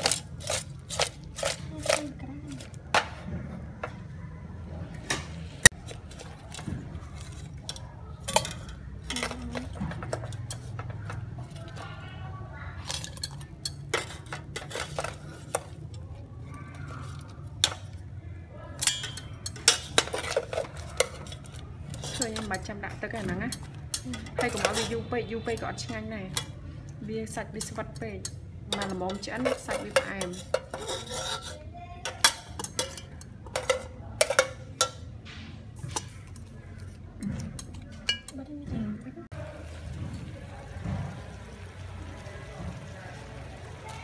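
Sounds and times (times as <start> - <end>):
metal ladle scraping pots: 0.0 - 4.0, 5.6 - 12.2, 12.8 - 18.2, 18.8 - 38.4.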